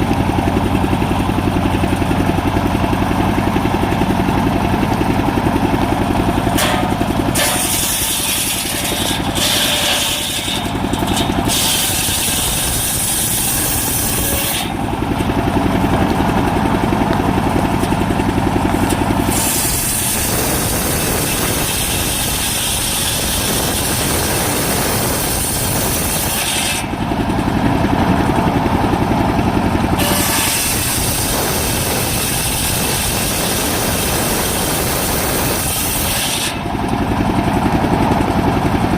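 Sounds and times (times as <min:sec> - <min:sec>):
sawmill engine drone: 0:00.0 - 0:38.9
saw cutting wood: 0:01.6 - 0:29.3, 0:29.9 - 0:37.7.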